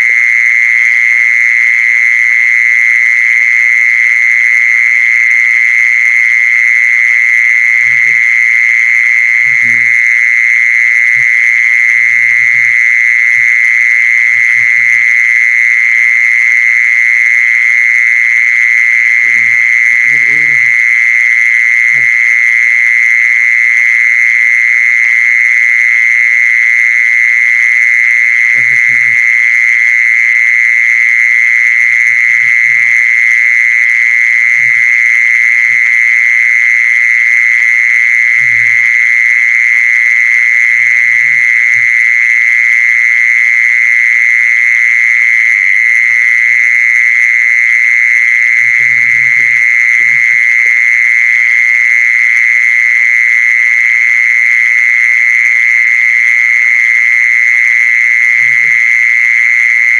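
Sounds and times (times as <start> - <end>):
steady high-pitched tone: 0.0 - 25.6, 27.4 - 59.9.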